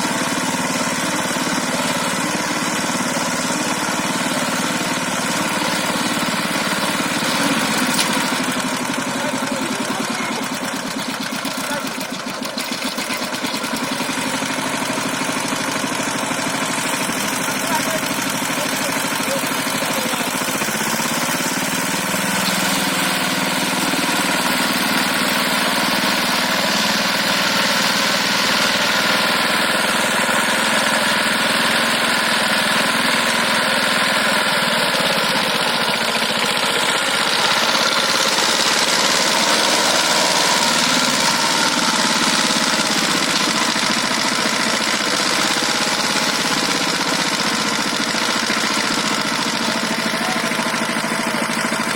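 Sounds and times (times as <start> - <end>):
power tiller engine running: 0.0 - 51.9.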